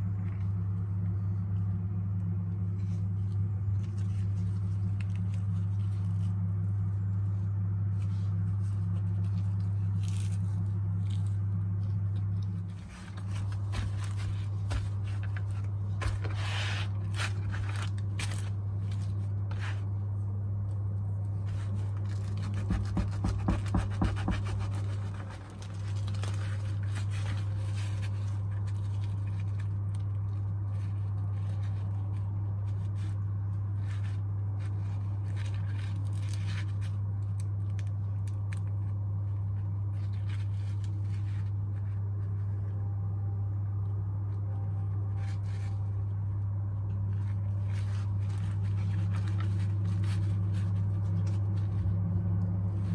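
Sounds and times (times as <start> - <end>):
flatbread crackling and rustling: 0.0 - 52.9
steady low hum: 0.0 - 52.9.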